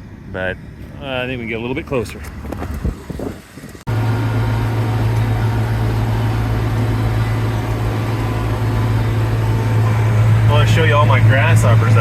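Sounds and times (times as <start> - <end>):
tractor engine running: 1.6 - 12.0.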